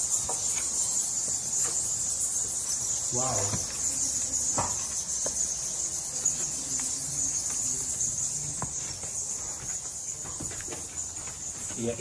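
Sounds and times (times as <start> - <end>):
high-pitched chirring of animals: 0.0 - 12.0.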